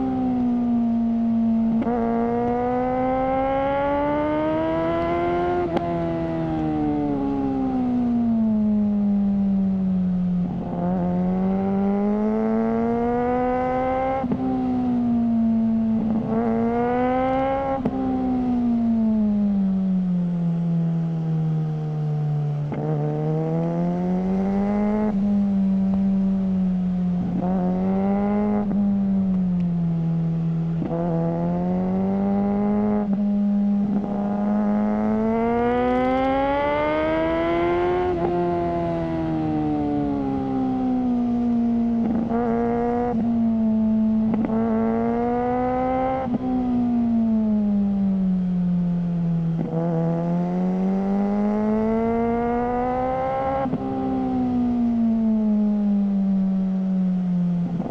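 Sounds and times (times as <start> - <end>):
motorcycle engine revving: 0.0 - 20.8, 22.0 - 57.9.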